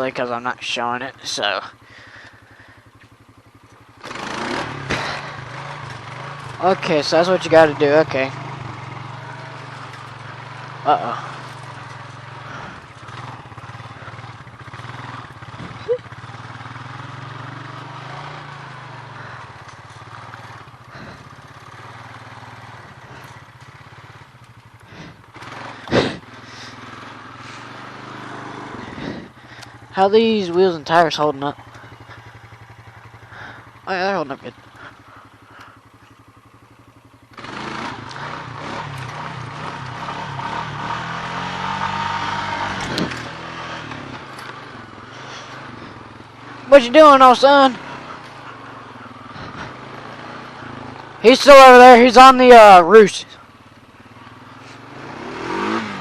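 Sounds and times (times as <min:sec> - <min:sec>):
four-wheeler engine running: 0:00.0 - 0:56.0.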